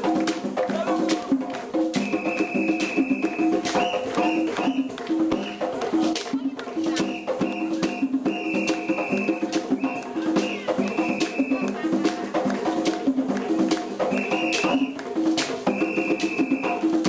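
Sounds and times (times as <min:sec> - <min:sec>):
drum and percussion music: 0:00.0 - 0:17.0.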